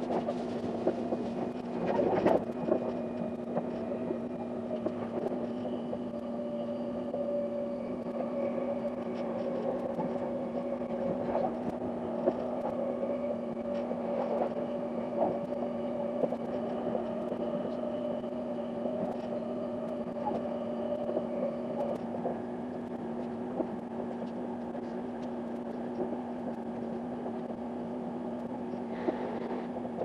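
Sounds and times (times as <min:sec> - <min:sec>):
electric train running hum: 0:00.0 - 0:30.0.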